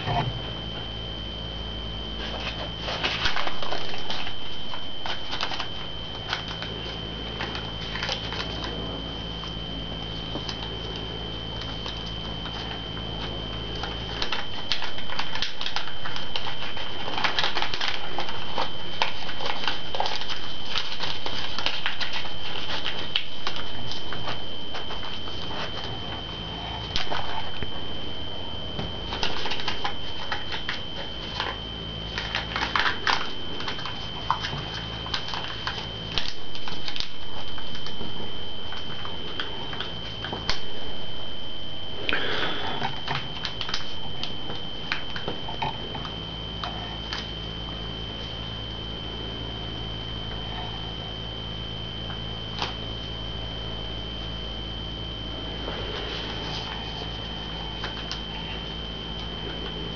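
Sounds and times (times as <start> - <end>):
high-pitched whine: 0.0 - 59.9
low hum: 0.0 - 59.9
paper folding and crinkling: 2.0 - 41.0, 41.9 - 48.9, 55.2 - 59.9.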